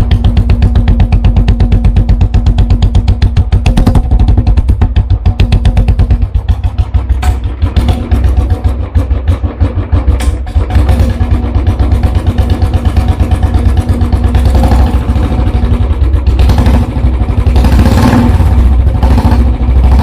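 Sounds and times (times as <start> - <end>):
motorcycle engine thumping: 0.0 - 20.0.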